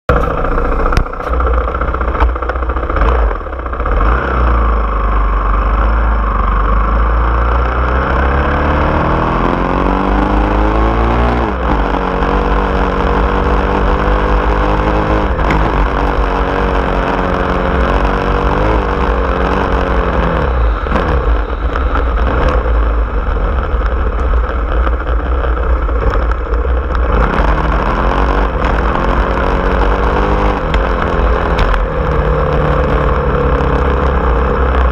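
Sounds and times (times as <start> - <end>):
heavy low rumble: 0.0 - 34.9
off-road vehicle engine: 0.0 - 34.9.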